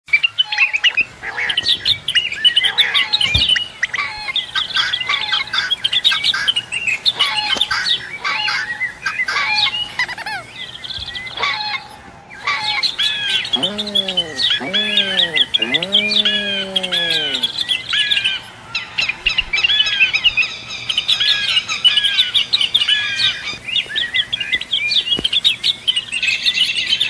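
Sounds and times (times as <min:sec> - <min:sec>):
many birds chirping: 0:00.2 - 0:27.0.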